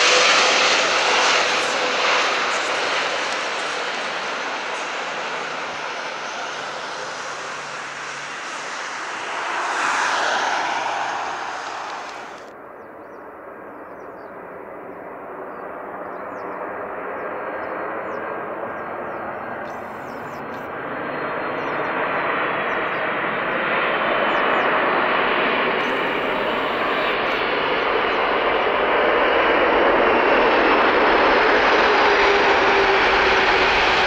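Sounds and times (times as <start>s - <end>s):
jet engines at take-off power: 0.0s - 34.0s.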